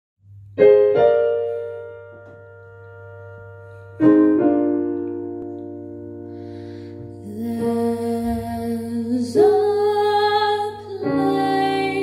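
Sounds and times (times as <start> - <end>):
slow piano chords: 0.2 - 12.0.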